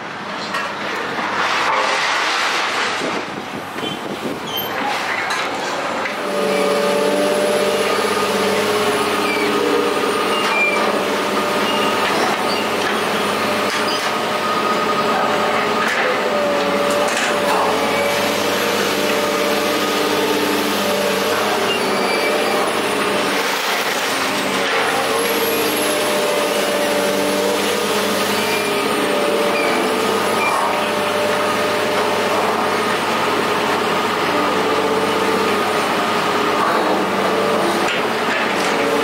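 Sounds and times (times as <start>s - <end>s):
engine running steadily: 3.0s - 39.0s.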